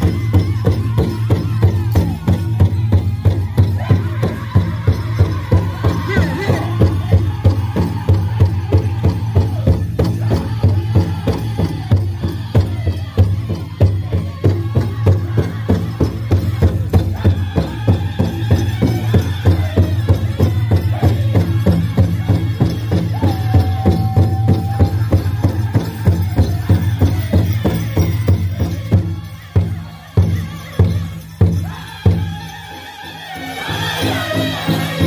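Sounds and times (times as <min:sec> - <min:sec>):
group singing: 0:00.0 - 0:35.0.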